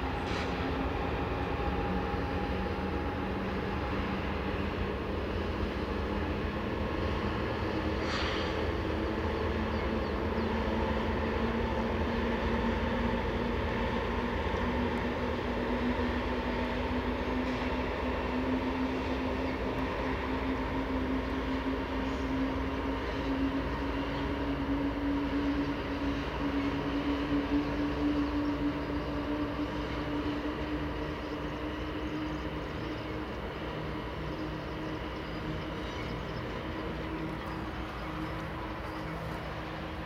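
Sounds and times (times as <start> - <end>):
diesel locomotive engines droning: 0.0 - 40.0.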